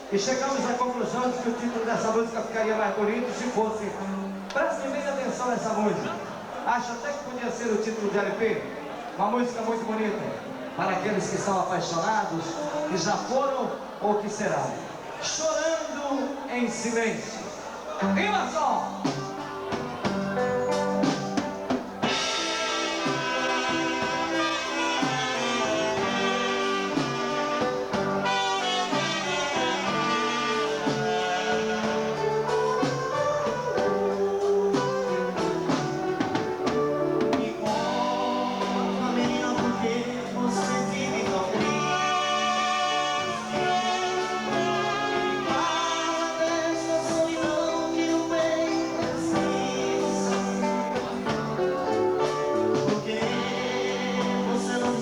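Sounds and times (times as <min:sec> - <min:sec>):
dance band playing a ballad: 0:00.0 - 0:55.0.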